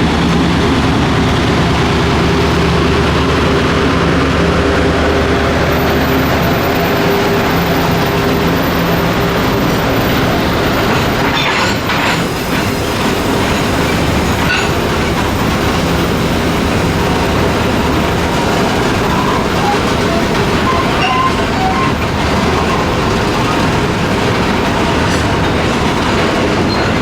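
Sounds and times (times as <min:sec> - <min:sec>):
clickety-clack over rail joints: 0:00.0 - 0:27.0
train wheels rumbling on rails: 0:00.0 - 0:27.0.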